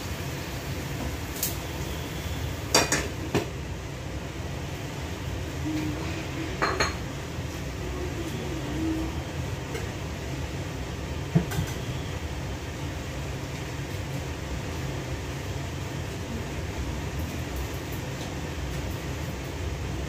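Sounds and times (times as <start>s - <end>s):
range hood fan humming: 0.0s - 20.0s.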